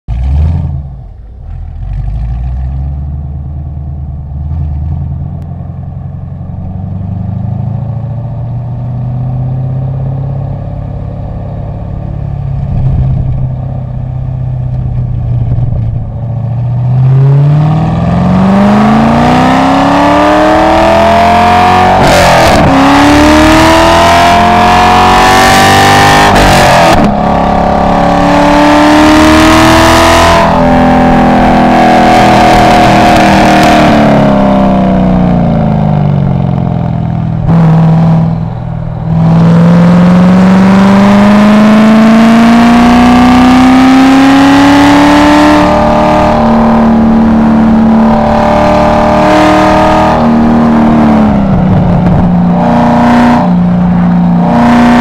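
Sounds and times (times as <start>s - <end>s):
car engine accelerating: 0.1s - 55.0s.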